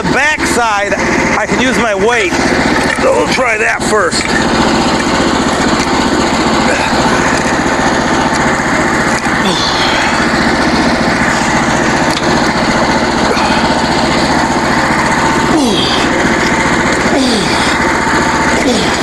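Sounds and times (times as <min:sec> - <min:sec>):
small gasoline engine running: 0:00.0 - 0:19.0.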